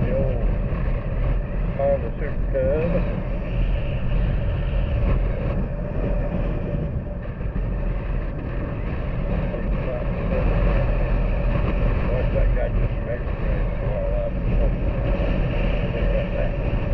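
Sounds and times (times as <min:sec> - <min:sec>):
road and wind noise: 0:00.0 - 0:16.9.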